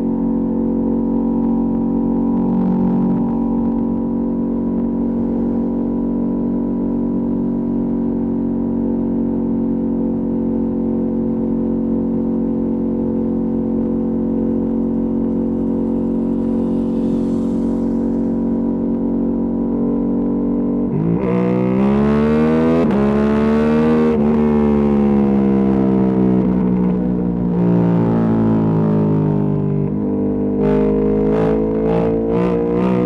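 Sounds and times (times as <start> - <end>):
motorcycle engine running steadily: 0.0 - 33.0.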